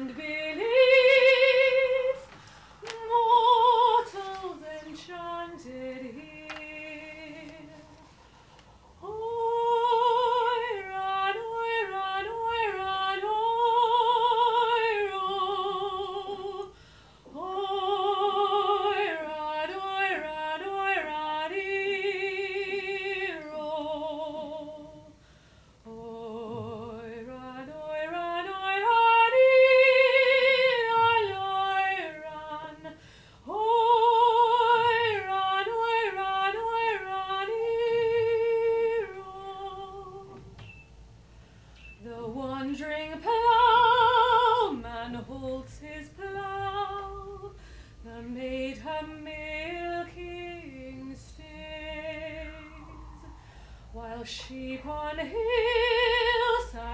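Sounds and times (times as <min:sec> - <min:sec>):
woman singing unaccompanied: 0:00.0 - 0:25.2, 0:25.8 - 0:40.6, 0:42.0 - 0:56.9.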